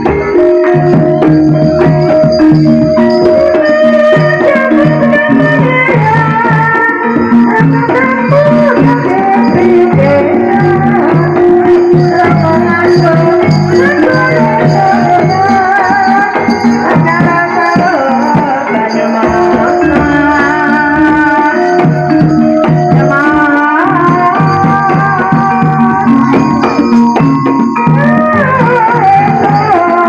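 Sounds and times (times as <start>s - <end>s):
hand drums: 0.0s - 30.0s
ringing metallophones and gongs: 0.0s - 30.0s.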